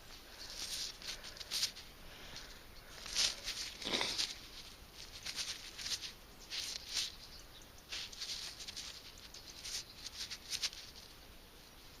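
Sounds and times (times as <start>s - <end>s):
fingers crumbling soil: 0.4s - 7.2s, 7.9s - 11.1s.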